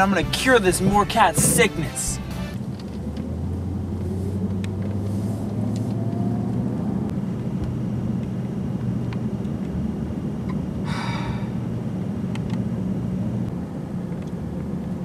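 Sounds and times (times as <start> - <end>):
car engine hum inside cabin: 0.0 - 15.0.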